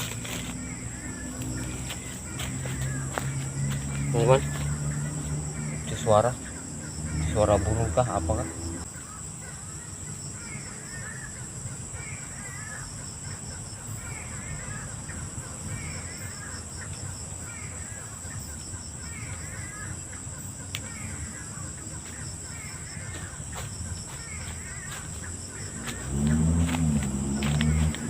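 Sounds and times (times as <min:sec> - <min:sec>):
high-pitched insect drone: 0:00.0 - 0:28.0
night bird chattering call: 0:00.0 - 0:28.0.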